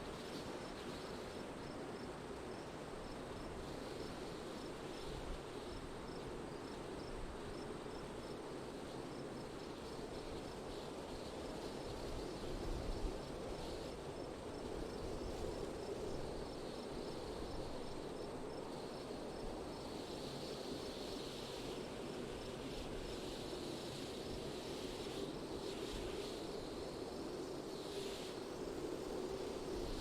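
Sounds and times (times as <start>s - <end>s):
outdoor wind: 0.0s - 30.0s.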